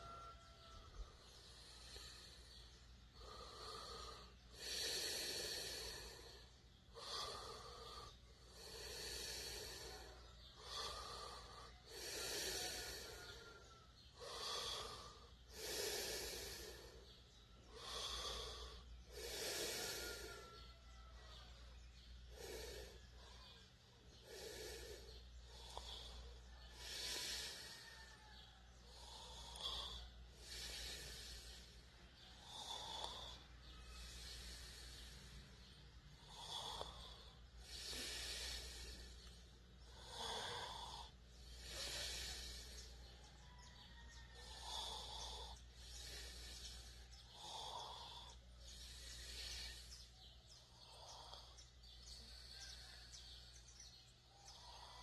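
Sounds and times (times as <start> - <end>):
person snoring: 3.2 - 17.1, 17.7 - 21.3, 22.3 - 23.6, 24.2 - 50.1, 50.7 - 51.6, 54.3 - 55.0.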